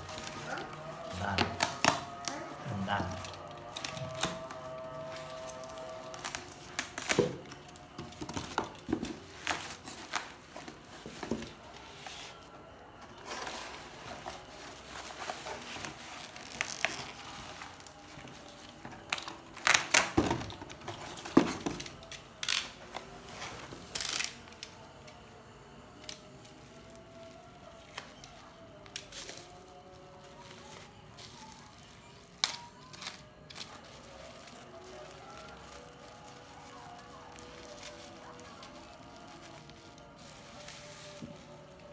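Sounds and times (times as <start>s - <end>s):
plastic packaging crinkling: 0.0s - 41.9s.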